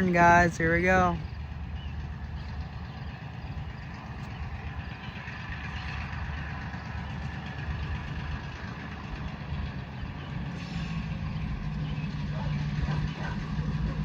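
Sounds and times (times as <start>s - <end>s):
diesel locomotive engine rumbling: 0.0s - 14.0s.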